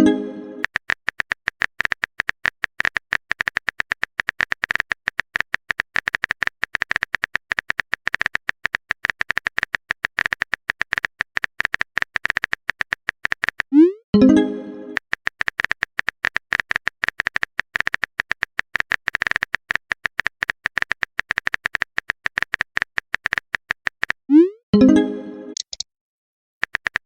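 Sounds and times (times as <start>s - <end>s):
fast keyboard typing clicks: 0.6s - 13.7s, 14.9s - 24.3s, 25.6s - 25.8s, 26.6s - 27.0s.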